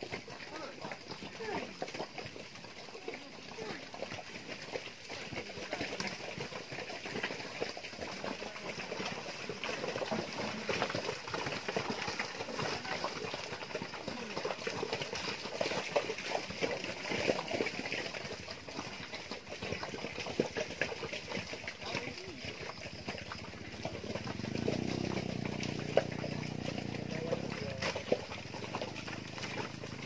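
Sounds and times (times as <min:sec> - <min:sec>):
hooves squelching in mud: 0:00.0 - 0:30.0.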